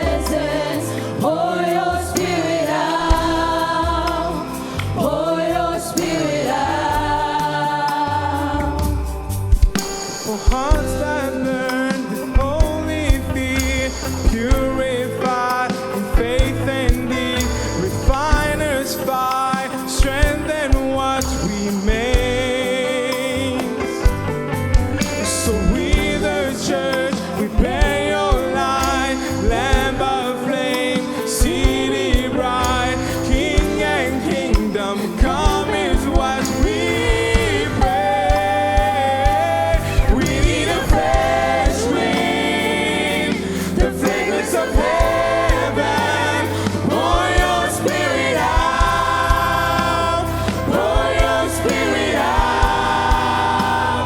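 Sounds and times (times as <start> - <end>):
band playing: 0.0 - 54.0
bass: 0.0 - 54.0
choir singing with vibrato: 0.0 - 54.0
steady drum beat: 0.0 - 54.0.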